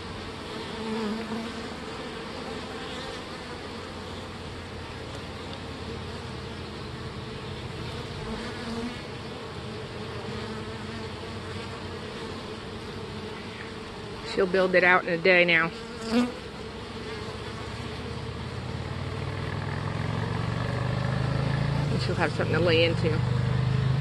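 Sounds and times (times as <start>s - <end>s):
bee swarm buzzing: 0.0s - 24.0s.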